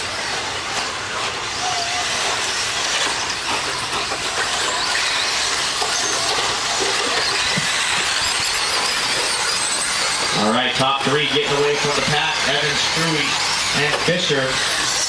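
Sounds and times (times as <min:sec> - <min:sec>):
rc truck motors whining: 0:00.0 - 0:15.0
tyre and chassis noise on dirt: 0:00.0 - 0:15.0.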